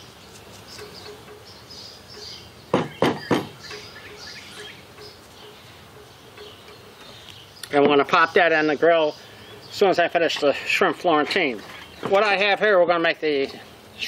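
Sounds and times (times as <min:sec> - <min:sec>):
birds chirping: 0:00.0 - 0:14.0
steady background hiss: 0:00.0 - 0:14.0.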